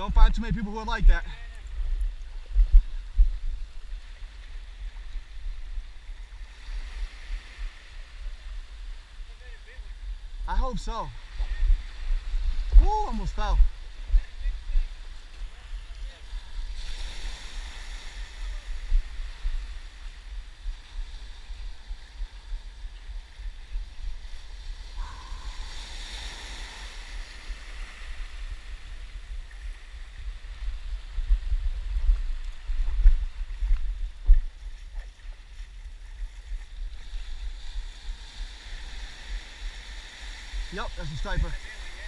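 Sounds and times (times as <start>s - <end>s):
small waves washing in: 0.0s - 42.0s
wind rumbling on microphone: 0.0s - 42.0s.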